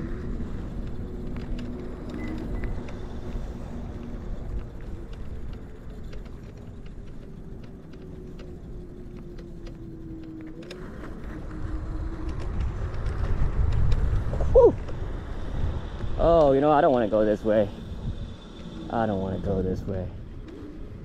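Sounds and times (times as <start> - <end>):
electric scooter motor whine: 0.0 - 21.0
road and wind rumble: 0.0 - 21.0.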